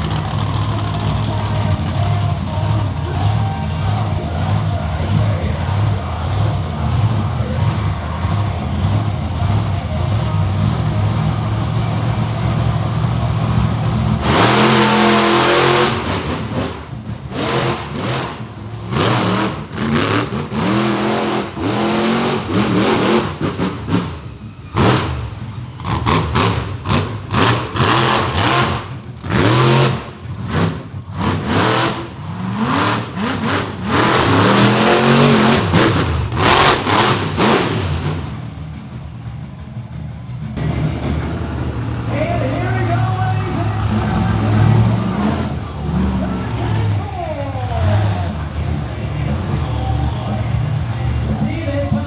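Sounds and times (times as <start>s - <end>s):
monster truck engine revving: 0.0s - 52.0s.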